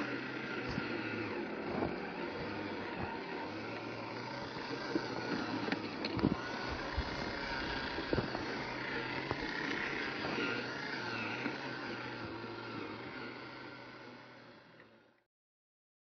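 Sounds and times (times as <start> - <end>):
small electric motor whining: 0.0 - 15.2.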